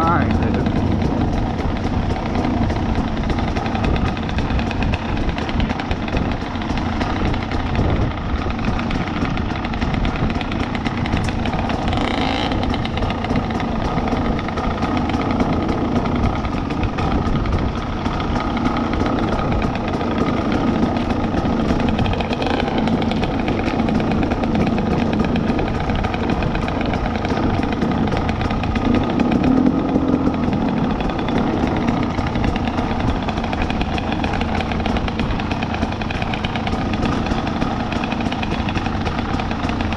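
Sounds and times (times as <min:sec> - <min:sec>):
two-stroke dirt bike engine: 0:00.0 - 0:39.9.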